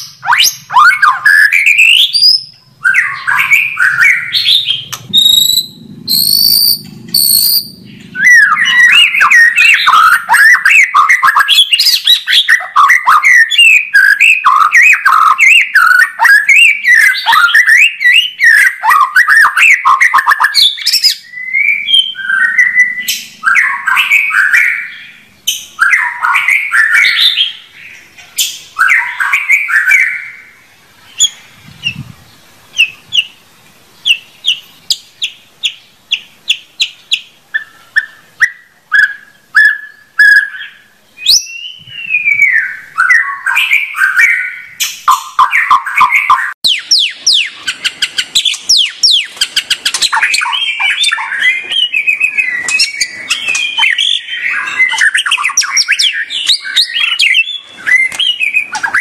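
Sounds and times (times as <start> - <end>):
sharp ticking bird notes: 0.0 - 32.0, 32.7 - 59.0
songbird whistling: 0.0 - 32.0, 32.7 - 33.4, 34.0 - 59.0.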